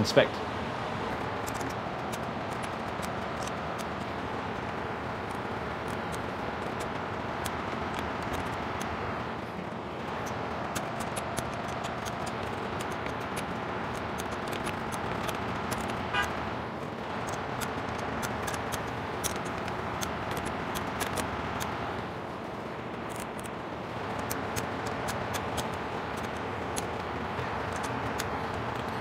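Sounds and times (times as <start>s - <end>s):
steady background hum: 0.0s - 29.0s
socket ratchet clicking: 1.1s - 9.0s, 10.1s - 16.1s, 17.2s - 21.8s, 24.1s - 29.0s.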